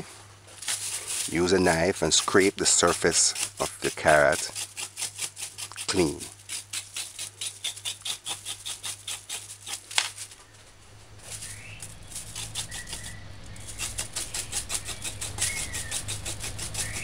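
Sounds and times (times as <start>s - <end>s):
knife scraping carrot: 0.6s - 10.4s, 11.2s - 17.0s.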